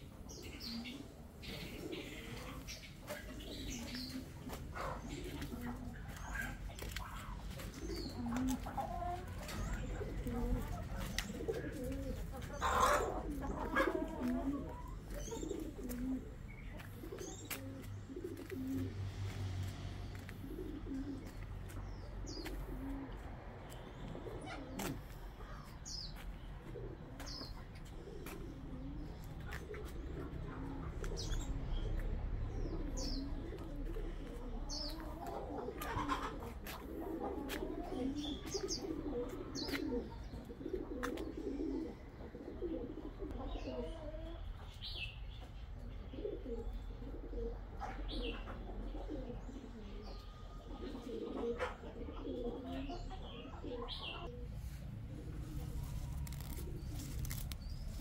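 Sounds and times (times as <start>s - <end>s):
pigeons cooing: 0.0s - 58.0s
small birds chirping: 0.0s - 58.0s.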